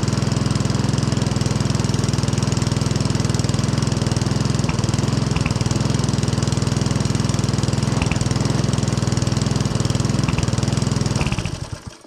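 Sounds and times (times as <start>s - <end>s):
lawnmower engine running: 0.0s - 12.0s.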